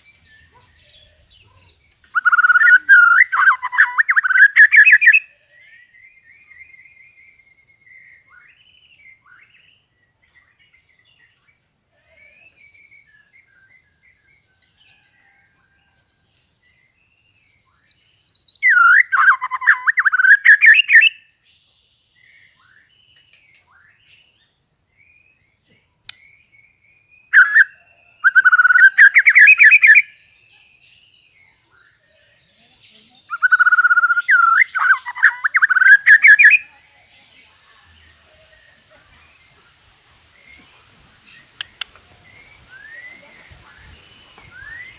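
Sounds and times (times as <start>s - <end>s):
bird singing whistled notes and trills: 0.0s - 44.9s.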